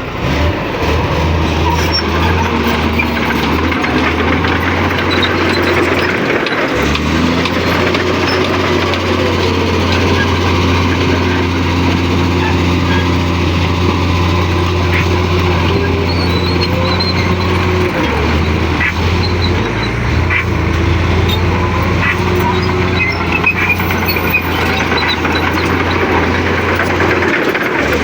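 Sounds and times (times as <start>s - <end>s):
bulldozer diesel engine drone: 0.0s - 28.0s.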